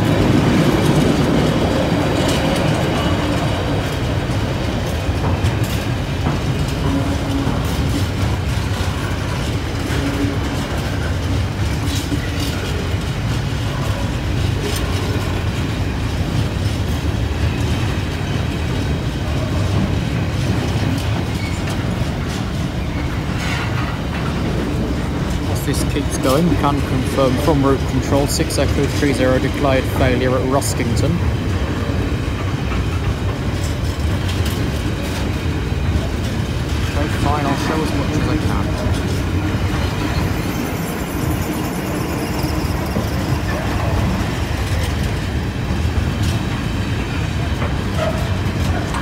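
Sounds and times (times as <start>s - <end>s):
train wagons rumbling on rails: 0.0s - 49.0s
wheels clicking on track: 0.0s - 49.0s.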